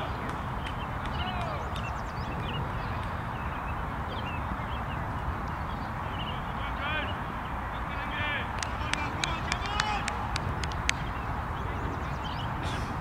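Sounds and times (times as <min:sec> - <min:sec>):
small birds chirping: 0:00.0 - 0:13.0
wind rumble on microphone: 0:00.0 - 0:13.0.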